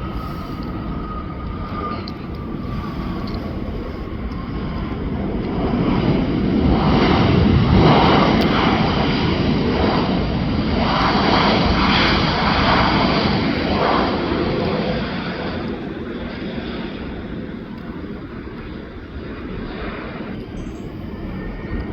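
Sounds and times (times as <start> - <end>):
jet engine passing low: 0.0 - 21.9.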